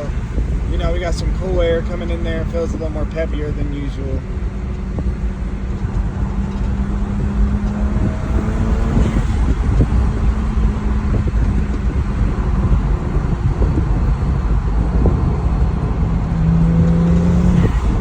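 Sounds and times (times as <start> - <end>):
car engine droning: 0.0 - 18.0
road and wind rumble: 0.0 - 18.0.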